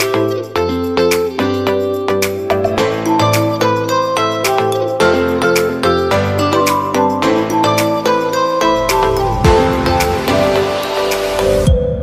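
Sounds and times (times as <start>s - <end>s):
instrumental music with bass line: 0.0s - 12.0s.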